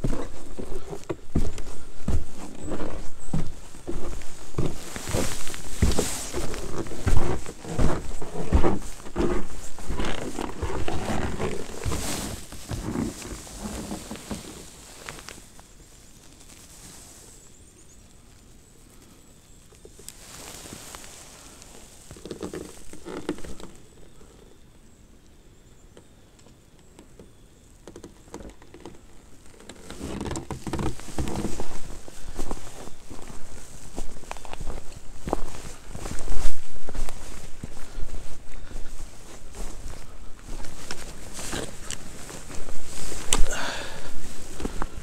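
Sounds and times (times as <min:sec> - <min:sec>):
footsteps crunching in snow: 0:00.0 - 0:17.6, 0:19.9 - 0:23.8, 0:28.8 - 0:45.0.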